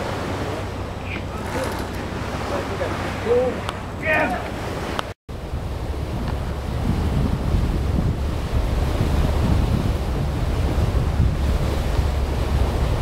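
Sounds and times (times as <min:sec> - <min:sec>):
rushing wind and water: 0:00.0 - 0:13.0
wind buffeting microphone: 0:00.0 - 0:13.0.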